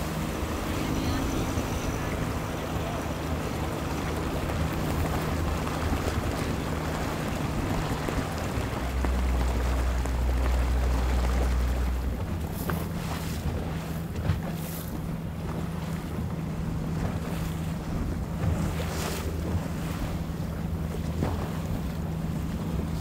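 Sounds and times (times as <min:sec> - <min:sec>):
boat engines humming: 0:00.0 - 0:23.0
water wash: 0:00.0 - 0:23.0.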